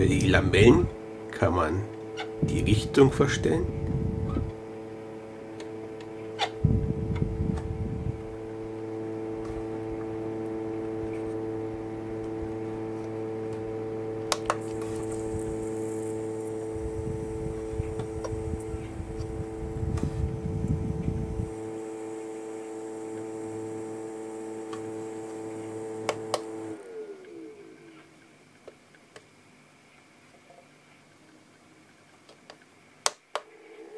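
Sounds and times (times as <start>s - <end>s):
louvres and buttons clicking: 0.0s - 29.3s
fan whirring hum: 0.0s - 33.9s.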